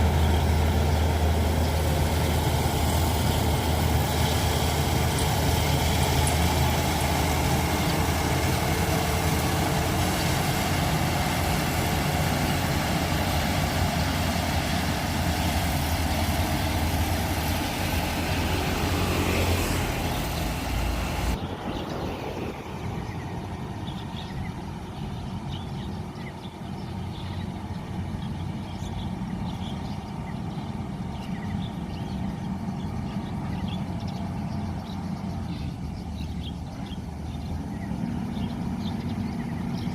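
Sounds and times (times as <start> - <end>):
harvester engine humming: 0.0 - 39.9.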